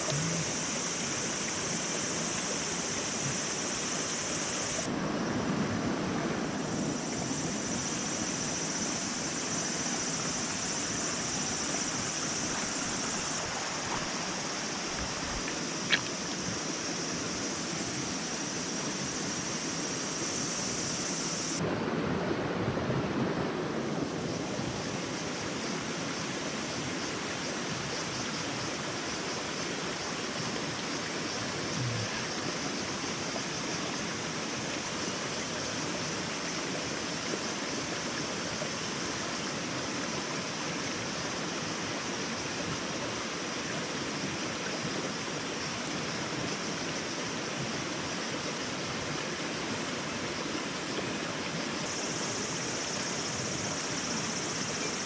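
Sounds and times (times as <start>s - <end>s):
steady rushing noise with hiss: 0.0s - 55.0s.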